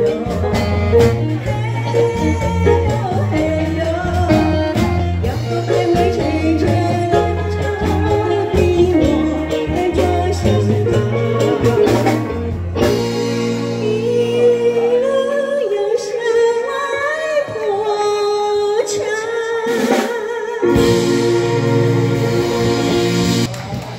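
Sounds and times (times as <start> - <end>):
woman singing into microphone: 0.0 - 12.1, 13.6 - 22.1
band with bass drums and keyboard: 0.0 - 23.9.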